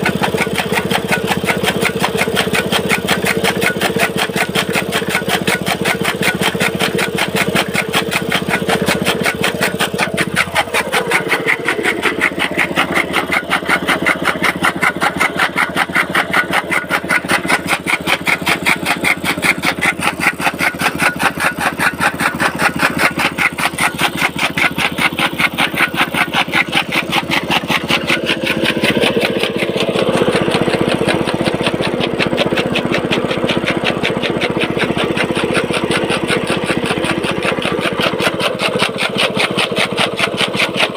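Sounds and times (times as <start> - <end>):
chaff cutter beating: 0.0 - 40.9
small petrol engine running: 0.0 - 40.9.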